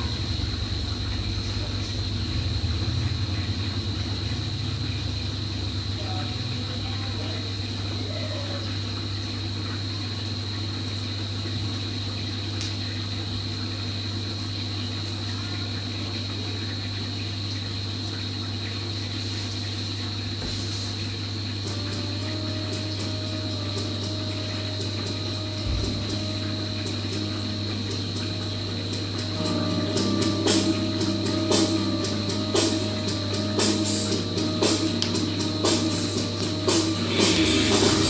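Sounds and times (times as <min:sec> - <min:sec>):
aquarium filter pump hum: 0:00.0 - 0:38.0
water flowing: 0:00.0 - 0:38.0.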